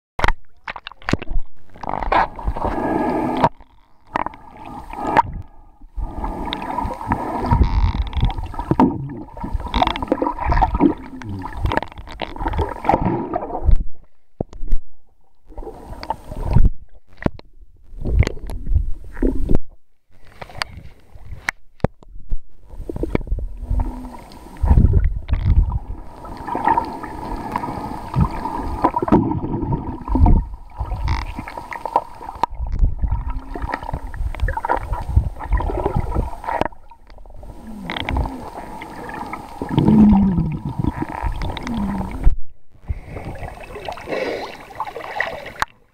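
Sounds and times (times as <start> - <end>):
water sloshing and gurgling: 0.2 - 45.9.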